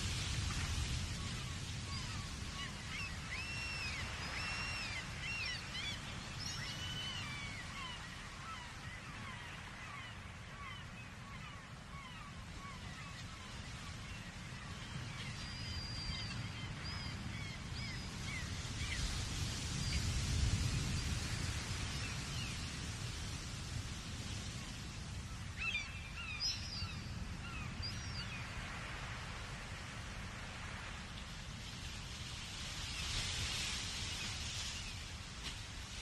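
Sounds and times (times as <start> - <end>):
ocean surf rumble: 0.0 - 36.0.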